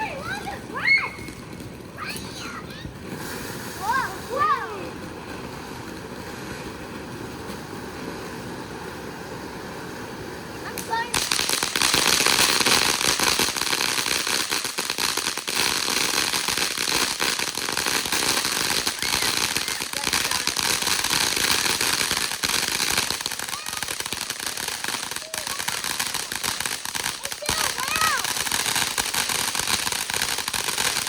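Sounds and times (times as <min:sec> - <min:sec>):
firework crackling and hissing: 0:00.0 - 0:31.0.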